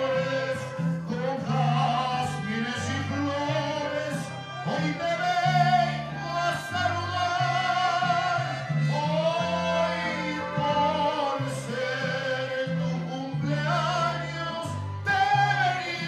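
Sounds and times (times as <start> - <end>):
backing music with bass line: 0.0 - 16.0
man singing into a microphone: 0.0 - 16.0.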